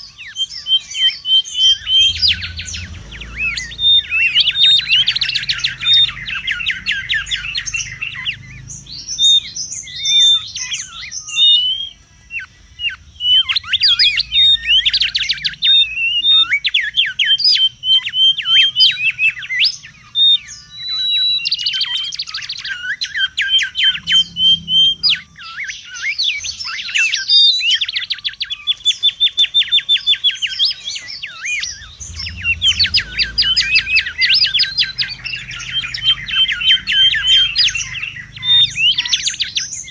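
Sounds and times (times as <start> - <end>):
bird trills and whistles: 0.0 - 39.9.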